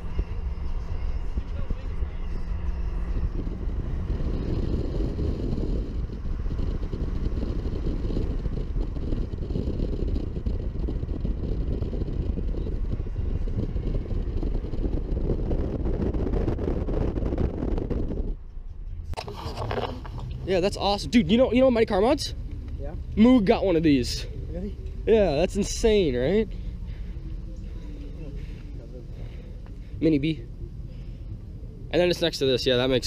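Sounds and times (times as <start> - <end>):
air buffeting microphone: 0.0 - 33.0
car road noise: 0.0 - 33.0.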